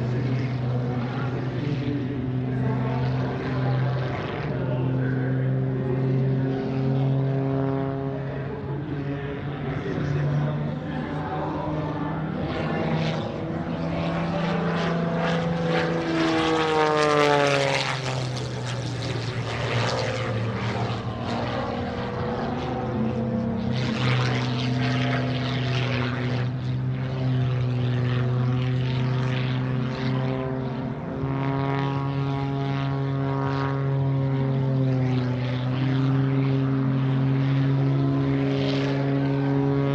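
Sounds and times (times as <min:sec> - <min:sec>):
propeller plane engine: 0:00.0 - 0:39.9.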